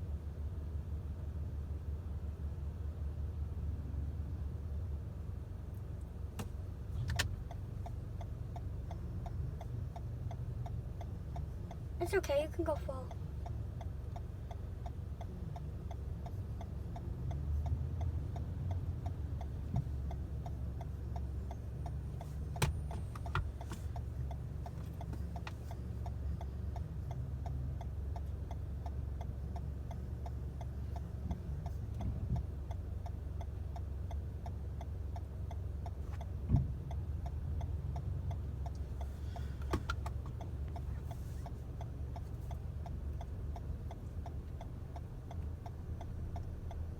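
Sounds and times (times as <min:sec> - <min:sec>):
engine and road rumble: 0:00.0 - 0:46.9
car indicator ticking: 0:05.6 - 0:46.9.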